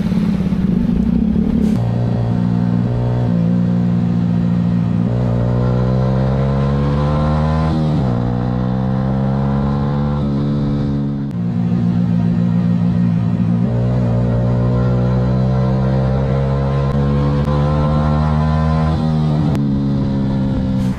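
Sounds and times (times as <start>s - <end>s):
motorbike engine revving: 0.0s - 20.9s.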